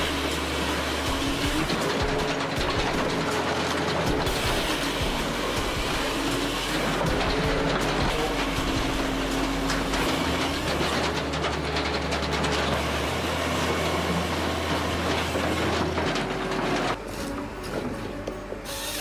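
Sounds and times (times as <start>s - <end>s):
wood-processing machinery clattering: 0.0s - 19.0s.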